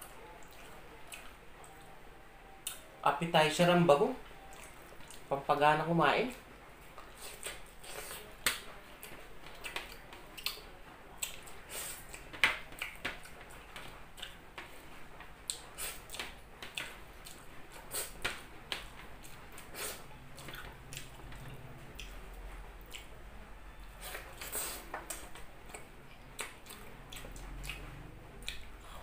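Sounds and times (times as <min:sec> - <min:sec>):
person chewing with wet smacks: 0:00.1 - 0:01.9, 0:04.3 - 0:05.3, 0:06.9 - 0:14.8, 0:15.4 - 0:23.2, 0:24.0 - 0:29.0.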